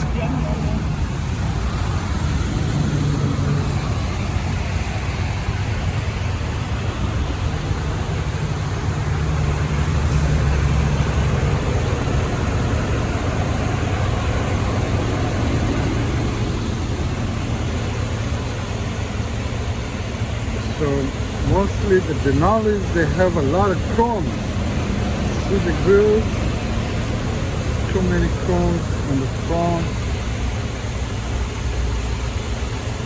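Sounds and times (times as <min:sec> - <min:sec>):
truck engine rumbling: 0:00.0 - 0:33.0.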